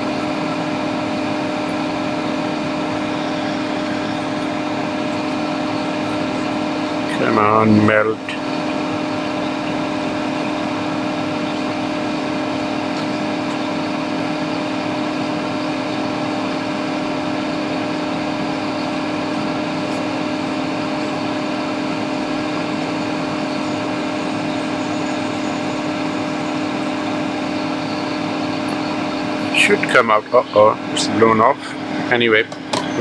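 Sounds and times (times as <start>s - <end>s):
exhaust fan humming: 0.0s - 33.0s
hot-air blower whirring: 0.0s - 33.0s.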